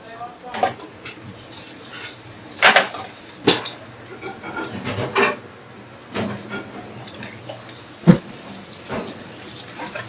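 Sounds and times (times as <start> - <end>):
utensils and dishes clattering: 0.5 - 10.0.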